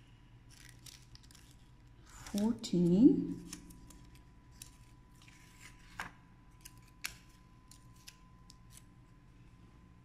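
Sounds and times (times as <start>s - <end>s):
paper notes rustling and tapping: 0.5s - 8.6s.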